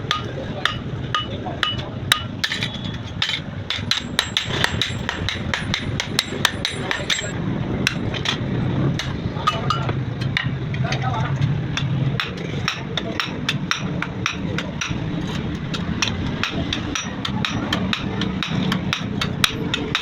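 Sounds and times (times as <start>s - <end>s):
hammer striking steel: 0.0s - 8.4s, 11.7s - 20.0s.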